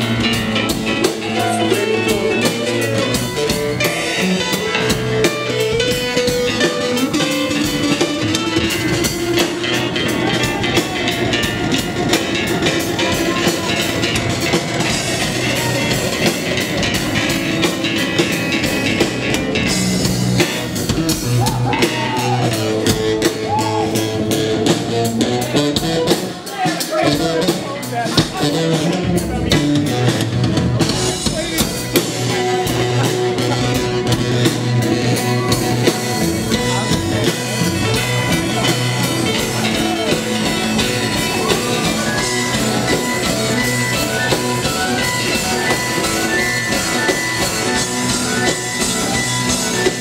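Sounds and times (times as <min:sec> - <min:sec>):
bass guitar: 0:00.0 - 0:50.0
drum kit: 0:00.0 - 0:50.0
electric keyboard: 0:00.0 - 0:50.0.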